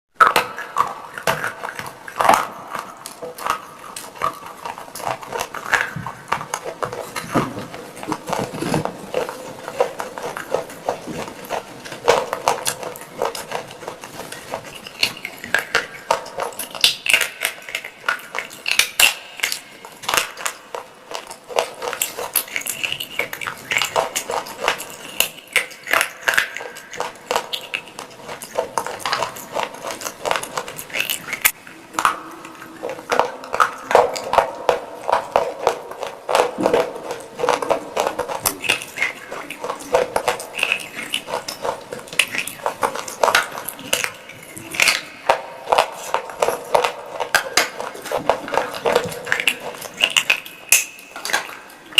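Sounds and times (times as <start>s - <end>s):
clay pot pieces being chewed: 0.2s - 51.9s.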